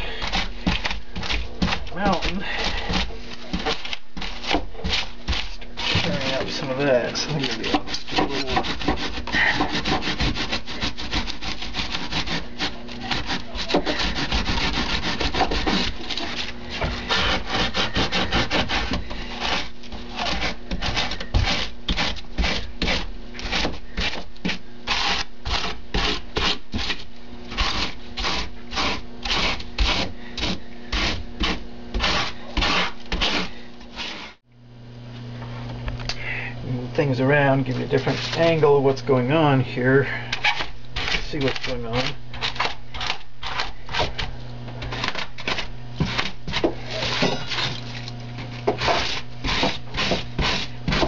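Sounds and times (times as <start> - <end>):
hand rasp scraping foam: 0.0 - 34.4, 37.9 - 38.7, 40.4 - 44.2, 44.8 - 48.0, 48.7 - 51.0.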